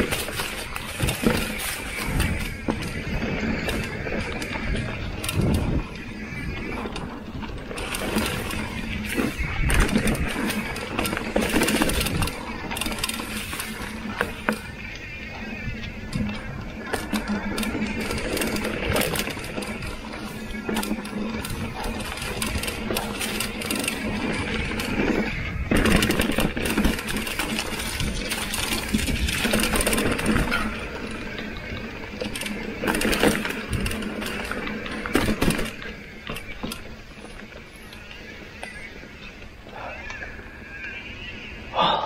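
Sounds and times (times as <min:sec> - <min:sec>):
bike hub freewheel buzzing: 0:00.0 - 0:42.0
bike knocking and rattling: 0:00.0 - 0:42.0.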